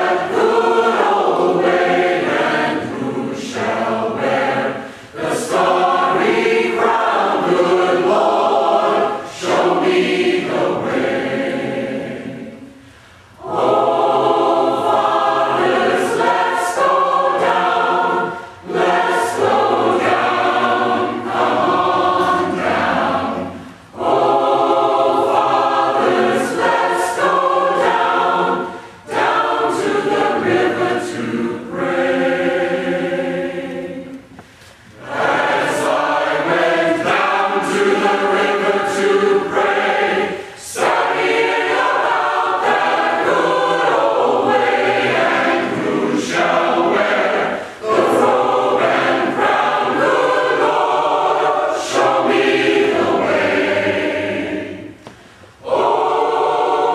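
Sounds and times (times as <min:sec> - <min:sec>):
mixed choir singing: 0:00.0 - 0:56.9.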